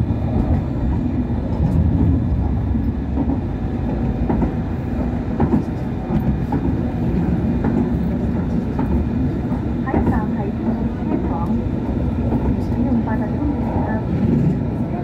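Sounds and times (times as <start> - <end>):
tram wheels and motors rumbling: 0.0 - 15.0.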